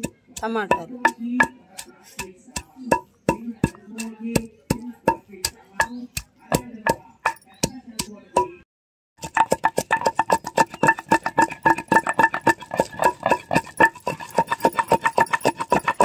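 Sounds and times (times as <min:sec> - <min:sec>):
pestle pounding in stone mortar: 0:00.0 - 0:08.6, 0:09.2 - 0:16.0.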